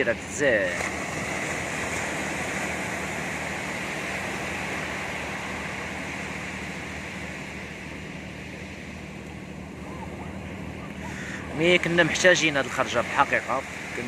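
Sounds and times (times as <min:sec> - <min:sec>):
sea surf washing on shore: 0:00.0 - 0:14.0.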